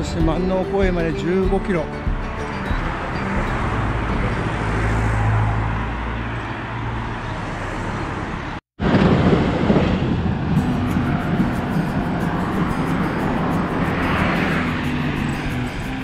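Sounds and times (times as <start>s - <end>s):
vehicles passing: 0.0s - 16.0s
engine hum: 1.9s - 16.0s.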